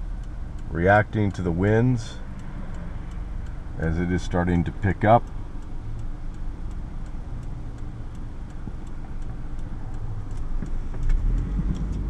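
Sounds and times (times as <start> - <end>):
car engine and road noise: 0.0 - 12.0
regular ticking: 0.0 - 12.0.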